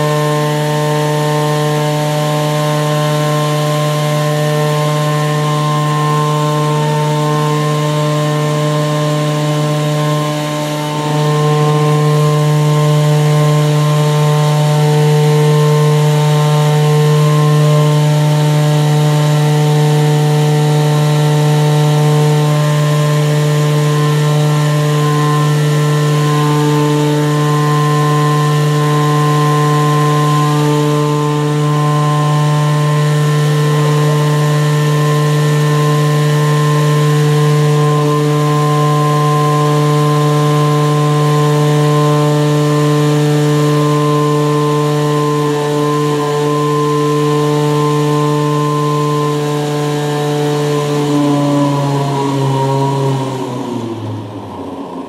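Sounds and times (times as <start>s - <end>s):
small engine buzzing: 0.0s - 55.0s.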